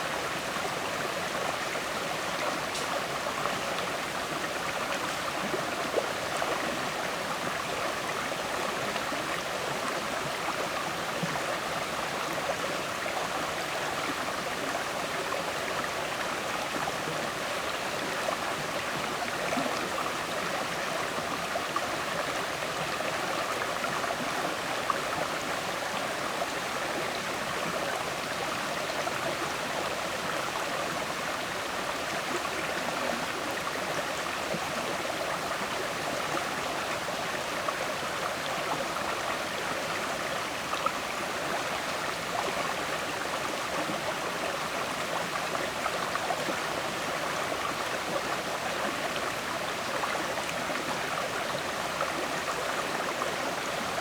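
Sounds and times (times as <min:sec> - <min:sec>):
river water flowing over stones: 0:00.0 - 0:54.0.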